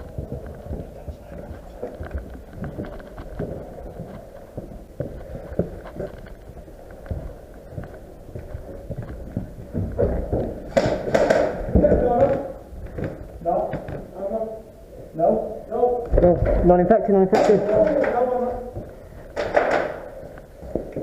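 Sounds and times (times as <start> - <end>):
footsteps on hard floor: 0.0 - 14.1, 17.6 - 21.0.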